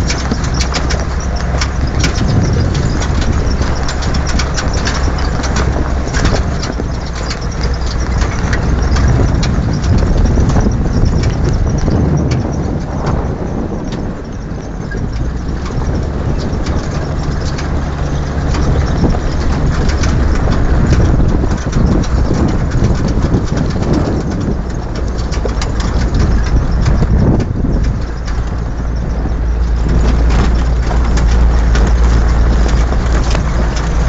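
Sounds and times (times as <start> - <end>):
stones and loose parts rattling: 0.0 - 34.0
vehicle rumbling on gravel: 0.0 - 34.0.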